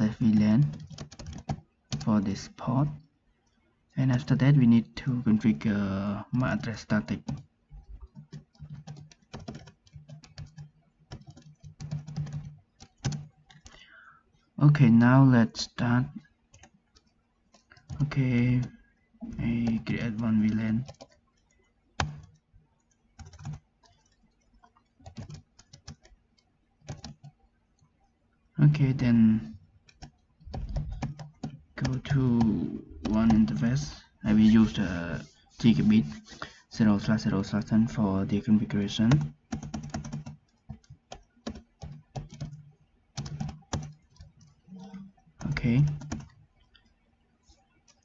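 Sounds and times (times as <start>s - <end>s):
keyboard typing: 0.0s - 48.0s.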